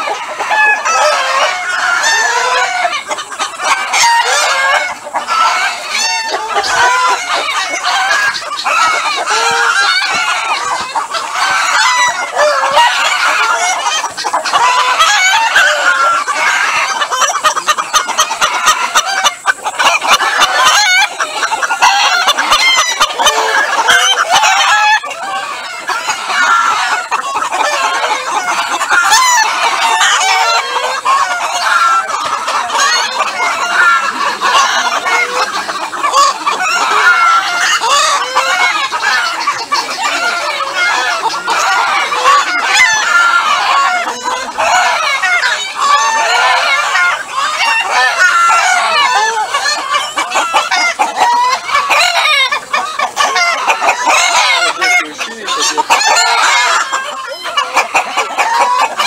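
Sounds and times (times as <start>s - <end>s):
hens clucking and cackling: 0.0s - 59.0s
roosters crowing: 0.0s - 59.0s.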